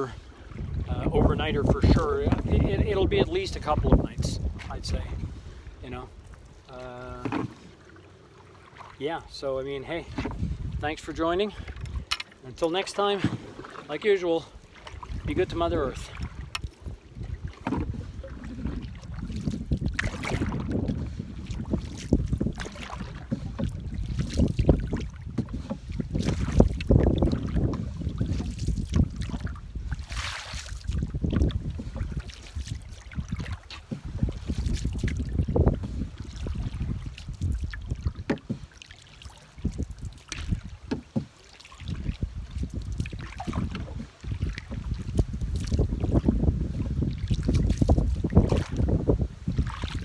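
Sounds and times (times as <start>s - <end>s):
wind rumble on microphone: 0.0s - 7.4s, 9.2s - 12.6s, 14.8s - 38.7s, 39.3s - 50.0s
paddle strokes splashing: 0.0s - 50.0s
water slapping hull: 0.0s - 50.0s.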